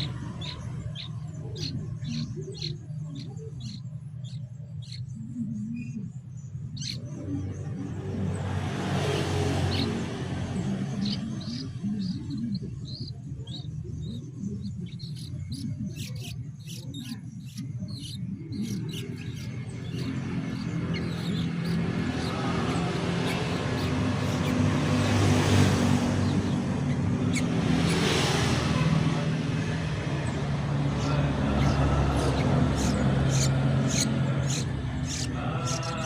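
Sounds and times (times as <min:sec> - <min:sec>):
bird chick begging chirps: 0:00.0 - 0:29.5, 0:30.2 - 0:36.0
steady low hum: 0:00.0 - 0:36.0.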